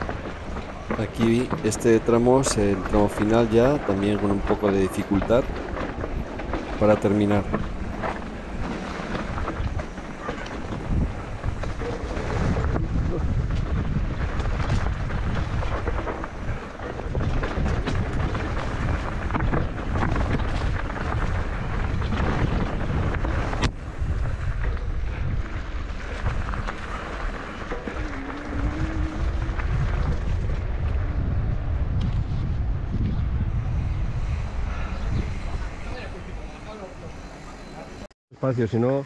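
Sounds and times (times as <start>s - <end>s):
wind buffeting microphone: 0.0s - 38.0s
mountain bike rattling: 0.0s - 38.1s.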